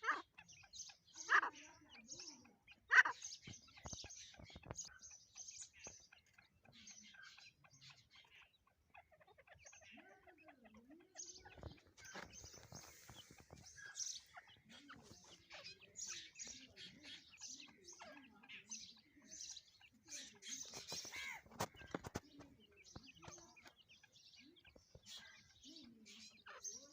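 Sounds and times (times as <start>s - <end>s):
faint bird chirping: 0.0s - 26.9s.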